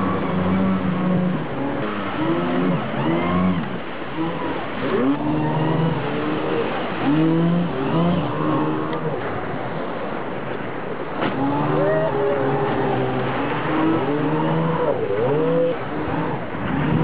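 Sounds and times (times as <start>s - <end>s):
water spray rushing: 0.0s - 9.6s, 11.2s - 17.0s
hydrofoil engines revving: 0.0s - 17.0s.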